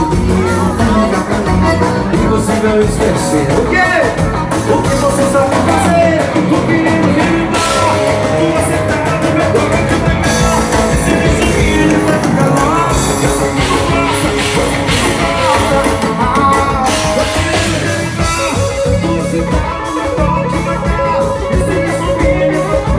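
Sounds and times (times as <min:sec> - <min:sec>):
band playing accordion dance music: 0:00.0 - 0:22.9
person singing: 0:00.0 - 0:22.9.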